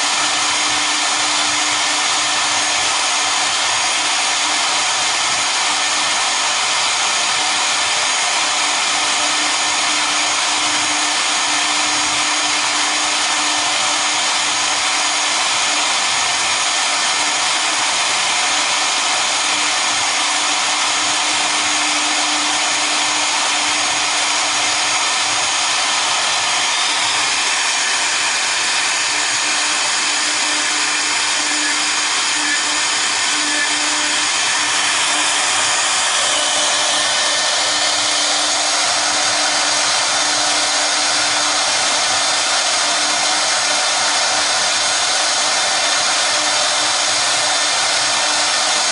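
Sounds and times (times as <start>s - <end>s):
router cutting noise: 0.0s - 48.9s
router spindles whining: 0.0s - 48.9s.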